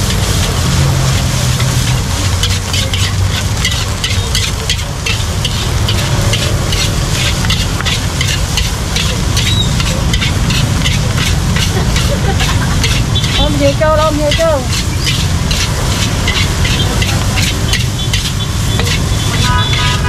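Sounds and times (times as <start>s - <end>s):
low rumble: 0.0s - 19.4s
metal ladle scraping wok: 0.0s - 20.0s
rice sizzling: 0.0s - 20.0s.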